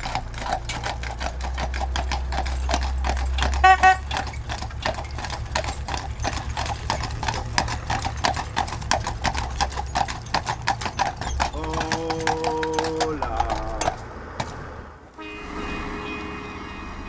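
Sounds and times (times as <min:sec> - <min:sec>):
hooves clip-clopping on asphalt: 0:00.0 - 0:14.9.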